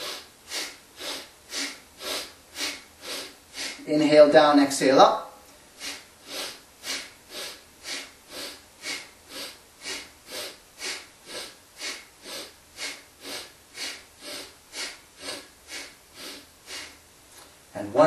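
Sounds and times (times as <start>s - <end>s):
person breathing rapidly through nose: 0.0s - 3.9s, 5.7s - 17.0s.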